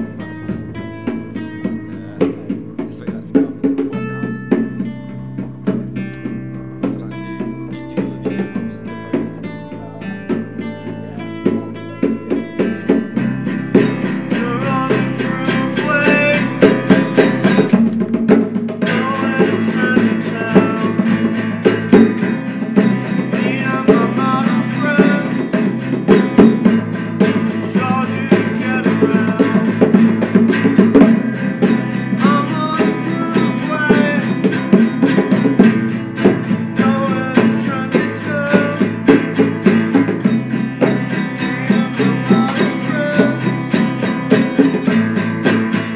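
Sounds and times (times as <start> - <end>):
electric bass: 0.0 - 45.9
steady drum beat: 0.0 - 45.9
strummed acoustic guitar: 0.0 - 45.9.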